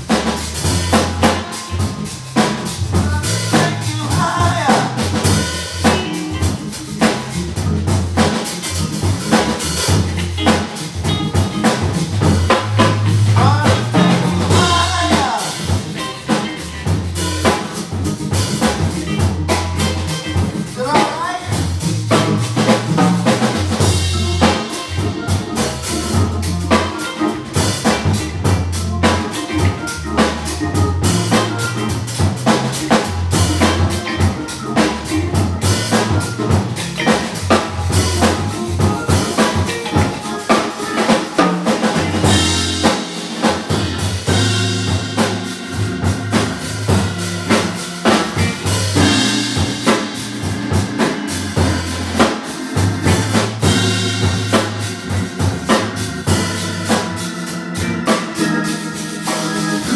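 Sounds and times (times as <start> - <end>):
drum kit steady beat: 0.0 - 59.9
electric guitar: 0.0 - 59.9
organ with deep bass line: 0.0 - 59.9.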